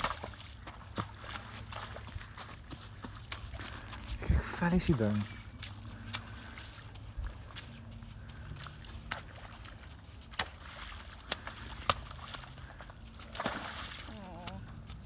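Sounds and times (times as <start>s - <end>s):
hooves splashing in puddle: 0.0s - 15.0s.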